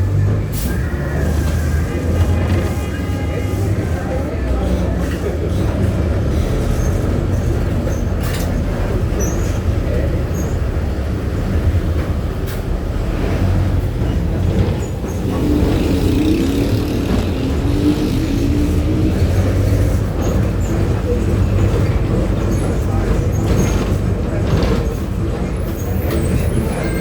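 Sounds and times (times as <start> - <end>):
bus body rattles and knocks: 0.0 - 27.0
bus engine droning: 0.0 - 27.0.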